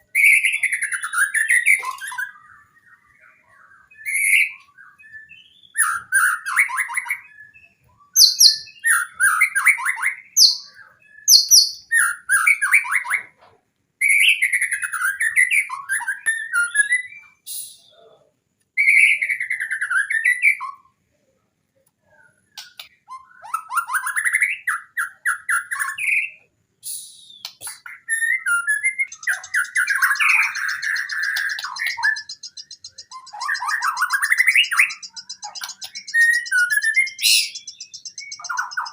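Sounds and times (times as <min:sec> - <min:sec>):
songbird singing varied phrases: 0:00.0 - 0:13.4, 0:14.0 - 0:38.9.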